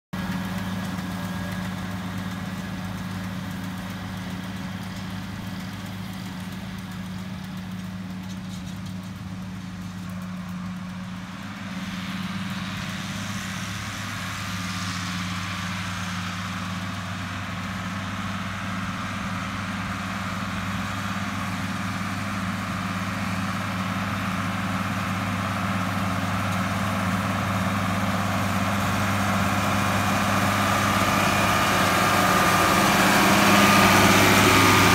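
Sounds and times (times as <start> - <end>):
diesel tractor engine drone: 0.1 - 34.9.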